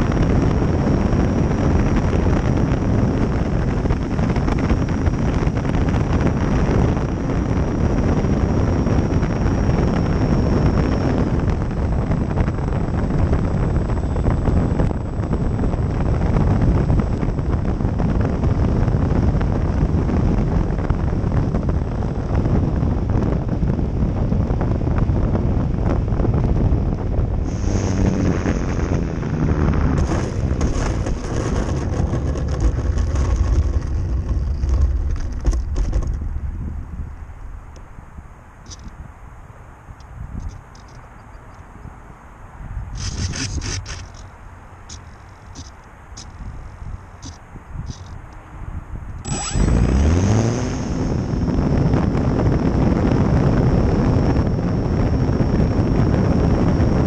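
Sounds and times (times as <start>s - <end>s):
high electric motor whine: 0.0s - 39.0s, 42.9s - 48.5s, 49.1s - 57.0s
wind rushing over camera: 0.0s - 57.0s.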